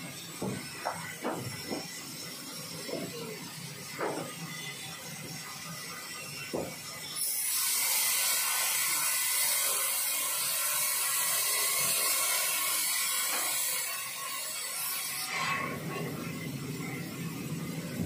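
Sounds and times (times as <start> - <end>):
band saw cutting through log: 0.0 - 18.0.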